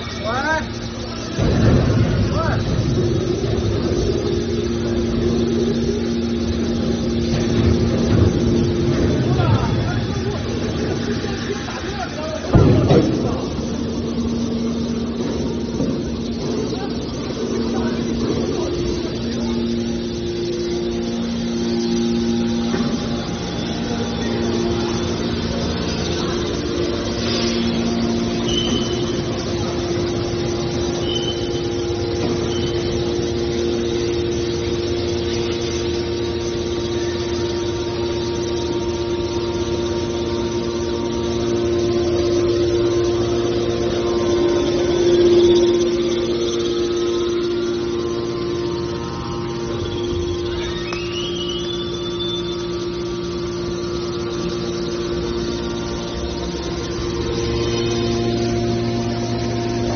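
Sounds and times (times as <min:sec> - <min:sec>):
hydraulic power unit humming: 0:00.0 - 0:59.9.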